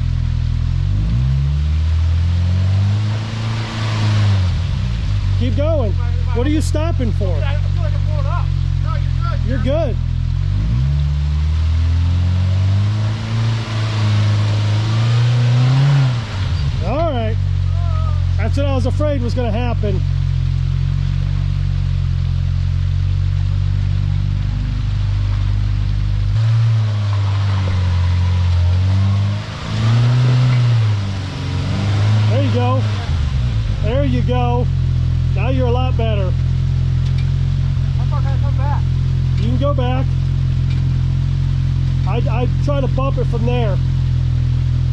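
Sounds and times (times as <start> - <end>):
off-road vehicle engine revving: 0.0 - 44.9.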